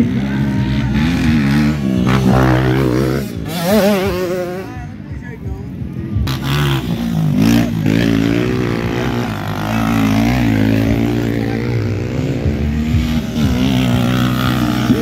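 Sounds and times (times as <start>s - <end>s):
dirt bike engines racing past: 0.0s - 15.0s.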